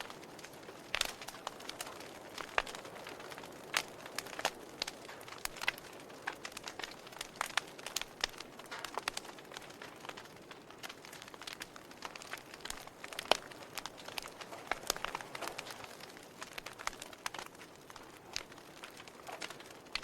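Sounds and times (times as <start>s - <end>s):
soft steady hiss: 0.0s - 20.0s
wood fire crackling: 0.0s - 20.0s.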